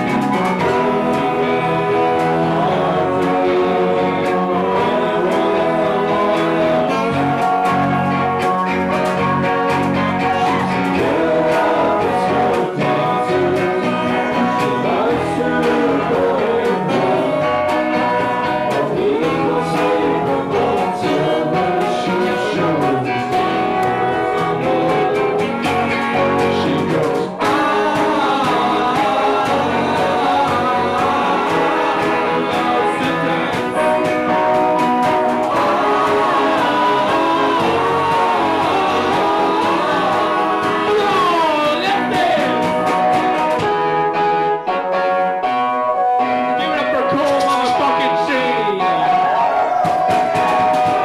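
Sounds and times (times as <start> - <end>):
guitar: 0.0 - 51.0
live band playing loudly: 0.0 - 51.0
person singing: 0.0 - 51.0.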